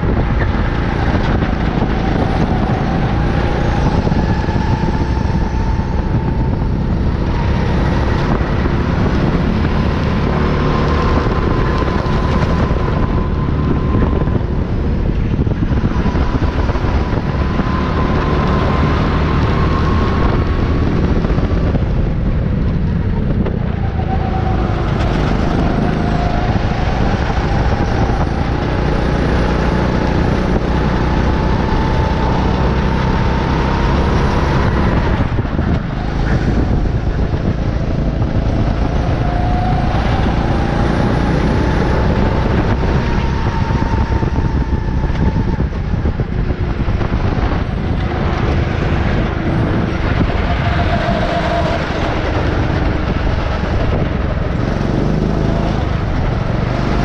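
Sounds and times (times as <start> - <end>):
go-kart engine revving: 0.0 - 57.0
heavy rushing noise: 0.0 - 57.0.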